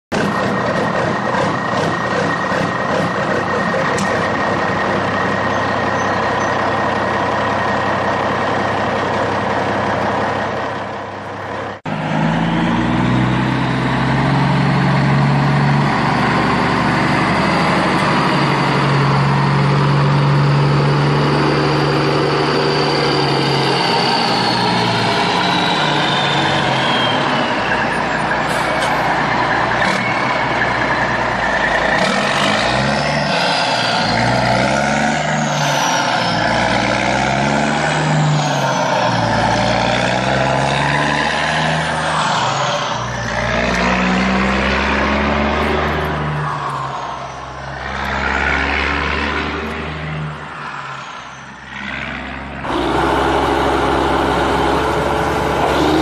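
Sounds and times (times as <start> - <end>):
truck diesel engine labouring: 0.1 - 56.0.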